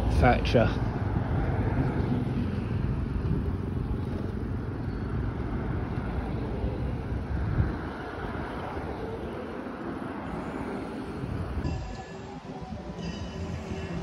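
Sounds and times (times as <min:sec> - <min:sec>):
road traffic: 0:00.0 - 0:14.0
wind rumble: 0:00.0 - 0:14.0.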